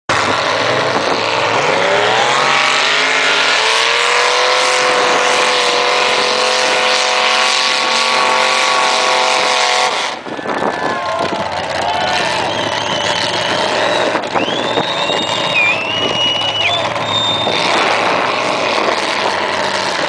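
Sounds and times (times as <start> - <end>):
truck engine revving: 0.1 - 20.0.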